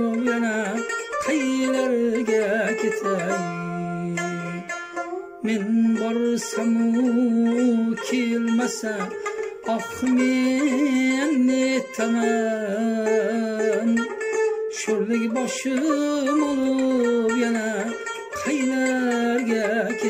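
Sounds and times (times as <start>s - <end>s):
plucked string accompaniment: 0.0s - 20.0s.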